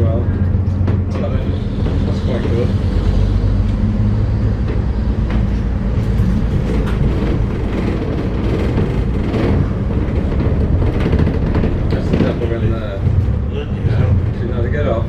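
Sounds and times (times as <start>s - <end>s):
bus engine running: 0.0s - 15.0s
bodywork rattles and knocks: 0.5s - 2.6s, 4.5s - 14.7s.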